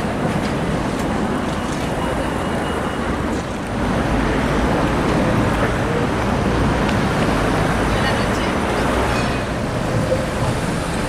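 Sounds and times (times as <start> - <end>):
road and tram traffic rumble: 0.0 - 11.0.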